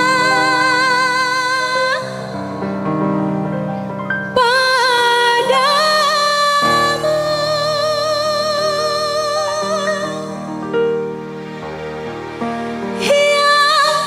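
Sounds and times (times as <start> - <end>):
slow vibrato melody: 0.0 - 14.0.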